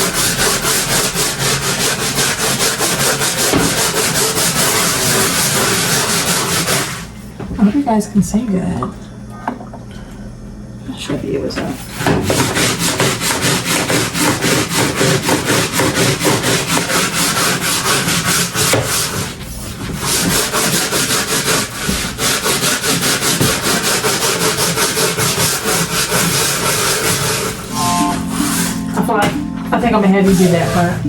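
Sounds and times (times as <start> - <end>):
floor scrubbing by hand: 0.0 - 7.2, 11.6 - 31.0.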